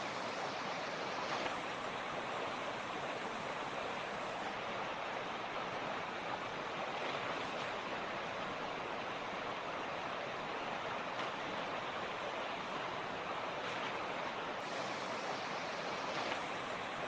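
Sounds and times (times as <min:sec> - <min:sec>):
creek running over rocks: 0:00.0 - 0:17.0.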